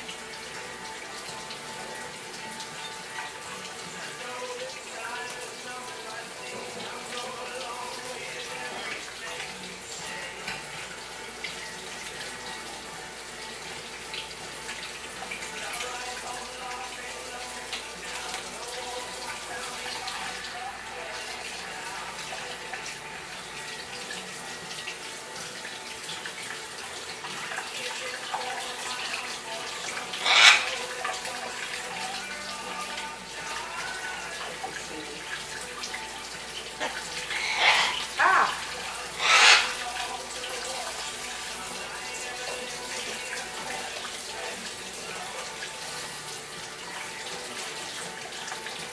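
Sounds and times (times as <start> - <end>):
water running from a tap: 0.0 - 48.9.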